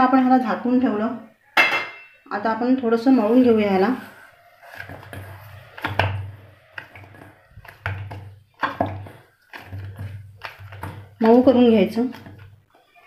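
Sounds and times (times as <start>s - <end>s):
hands kneading dough in metal bowl: 2.4s - 13.0s.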